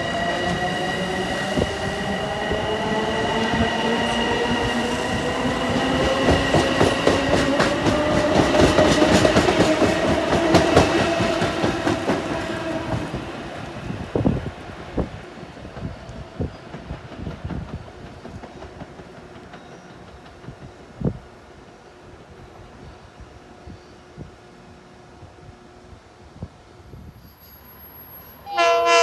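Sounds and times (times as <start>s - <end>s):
electric train whine: 0.0s - 29.0s.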